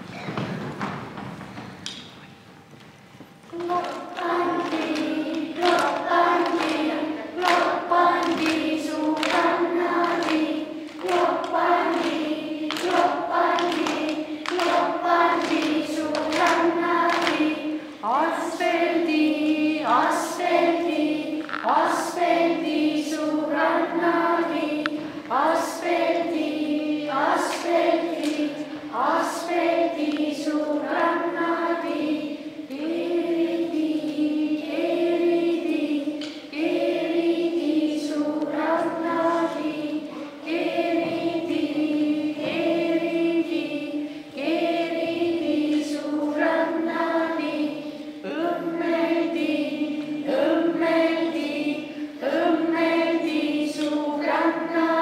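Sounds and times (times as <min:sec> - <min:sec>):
children singing in unison: 0:03.5 - 0:55.0.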